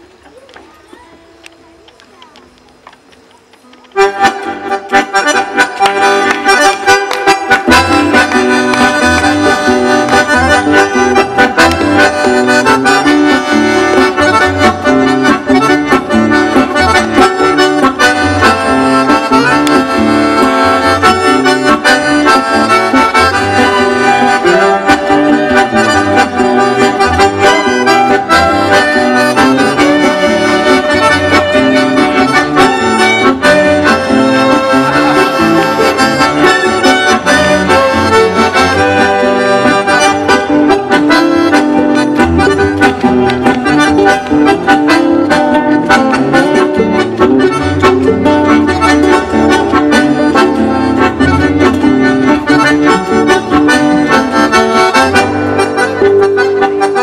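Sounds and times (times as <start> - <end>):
accordion: 0.0 - 57.0
acoustic guitars: 0.0 - 57.0
rhythmic bass line: 4.0 - 57.0.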